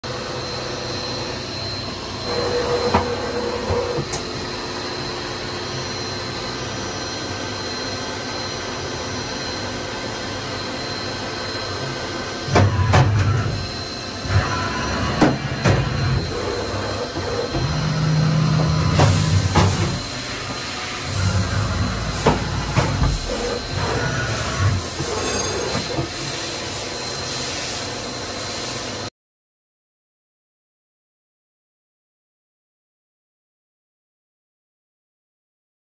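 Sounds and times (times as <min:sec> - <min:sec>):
machine hum with high whine: 0:00.0 - 0:29.1
machine whirring: 0:00.2 - 0:29.0.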